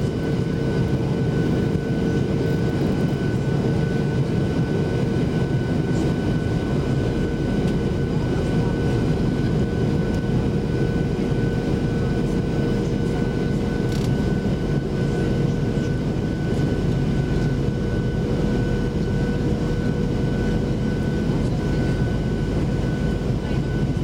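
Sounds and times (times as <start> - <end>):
jet engines droning: 0.0 - 24.0.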